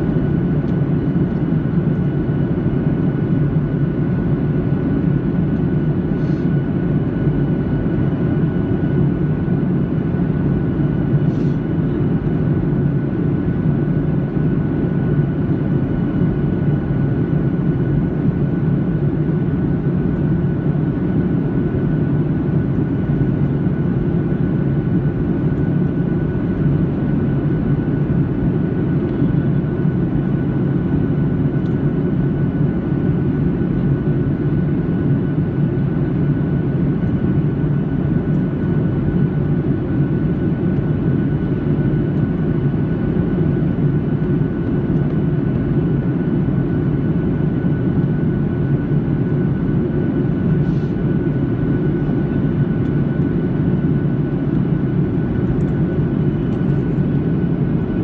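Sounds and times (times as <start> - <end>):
jet engines and airflow rushing: 0.0 - 58.0.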